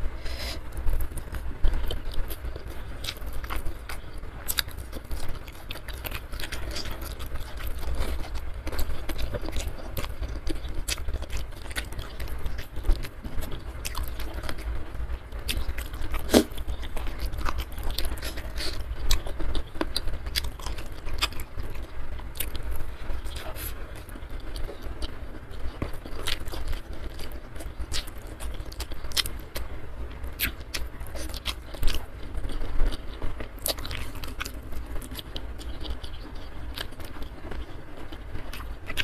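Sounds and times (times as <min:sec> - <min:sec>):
chewing and biting food: 0:00.2 - 0:39.0.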